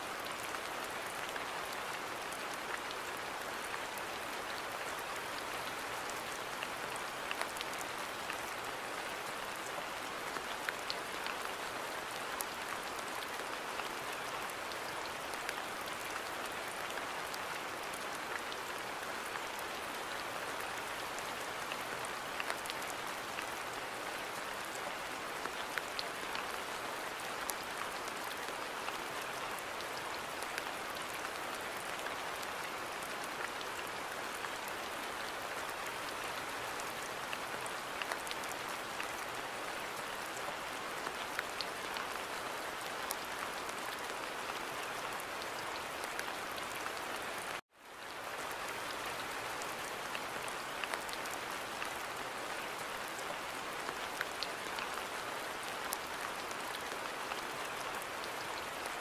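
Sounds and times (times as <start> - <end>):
rain falling on a garden: 0.0 - 59.0
raindrops ticking on surfaces: 0.0 - 59.0.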